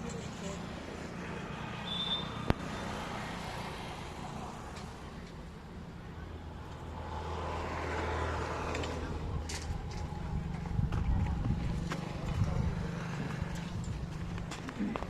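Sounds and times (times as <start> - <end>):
vehicle engine approaching: 2.7 - 15.0.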